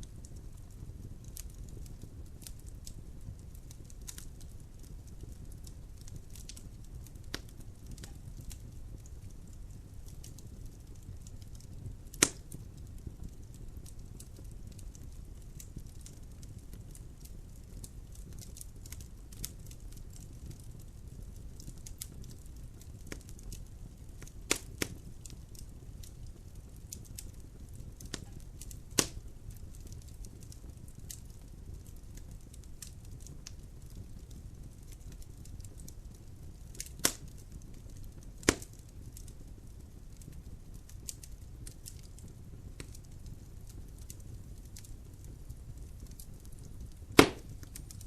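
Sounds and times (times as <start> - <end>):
logs crackling in fireplace: 0.0 - 48.0
sharp fire pops: 0.1 - 39.4, 40.1 - 48.0.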